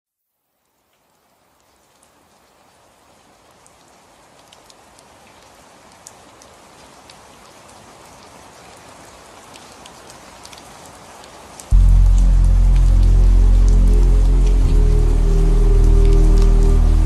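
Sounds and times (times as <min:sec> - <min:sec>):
rain falling: 0:00.2 - 0:17.0
raindrop ticks: 0:00.6 - 0:02.1, 0:03.6 - 0:08.7, 0:09.4 - 0:17.0.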